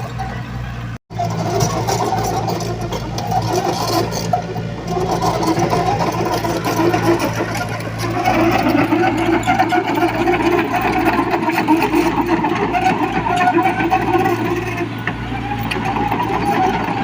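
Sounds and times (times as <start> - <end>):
diesel engine rattling: 0.0 - 17.0.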